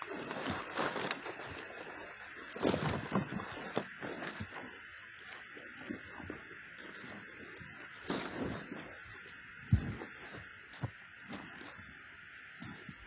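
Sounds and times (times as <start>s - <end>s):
footsteps on dry leaves and grass: 0.0s - 13.0s.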